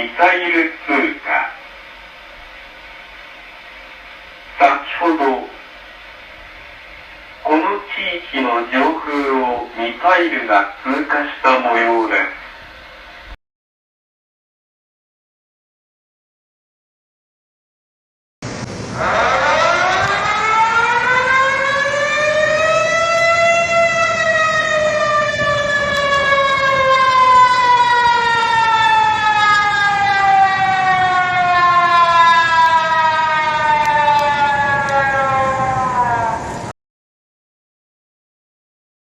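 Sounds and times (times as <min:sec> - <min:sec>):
warning siren: 0:00.0 - 0:13.4, 0:18.5 - 0:36.8.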